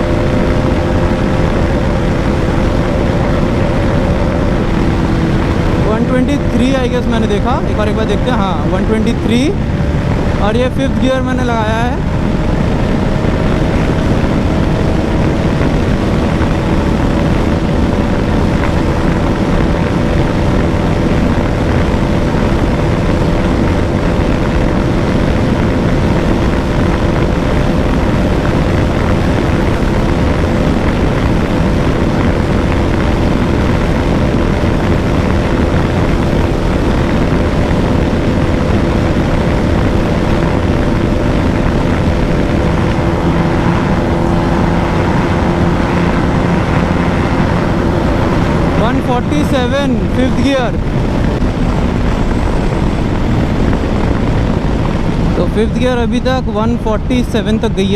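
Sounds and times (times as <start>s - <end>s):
motorcycle engine at high speed: 0.0s - 57.9s
wind noise: 0.0s - 57.9s.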